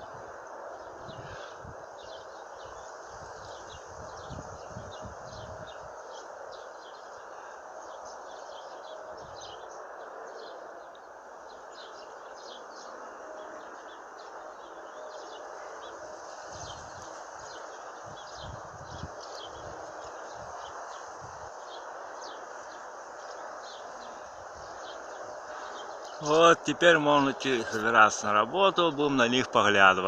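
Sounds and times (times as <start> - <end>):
outdoor background noise: 0.0 - 30.0
small birds chirping: 0.0 - 30.0.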